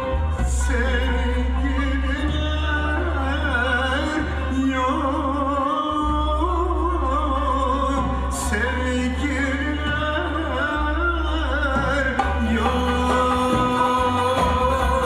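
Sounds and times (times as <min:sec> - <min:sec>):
instrumental accompaniment: 0:00.0 - 0:15.0
man singing melismatic song: 0:00.0 - 0:15.0
steady low bass: 0:00.0 - 0:15.0.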